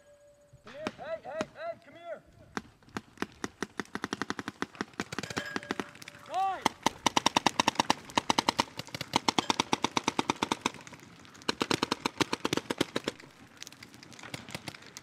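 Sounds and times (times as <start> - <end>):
paintball markers firing: 2.5 - 15.0.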